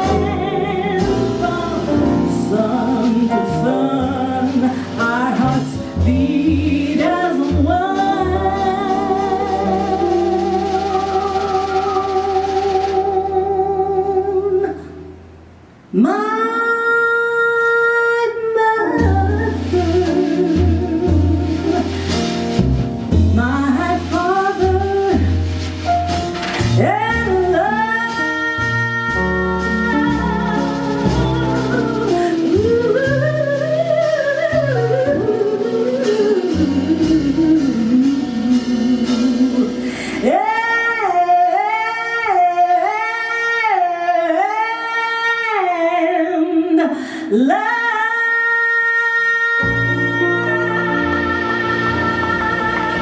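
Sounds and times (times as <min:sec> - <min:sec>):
woman singing jazz ballad: 0:00.0 - 0:15.3, 0:15.9 - 0:53.0
jazz band playing: 0:00.0 - 0:15.4, 0:18.8 - 0:42.9, 0:49.5 - 0:53.0.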